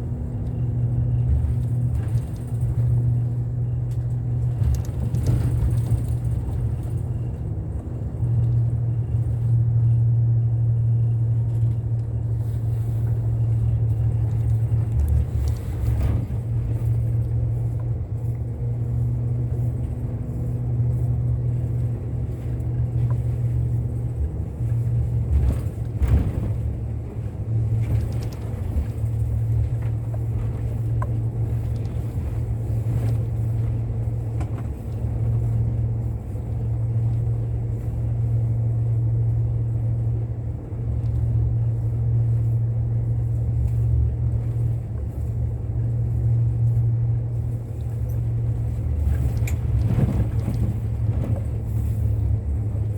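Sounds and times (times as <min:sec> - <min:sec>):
bus engine and road drone: 0:00.0 - 0:52.9.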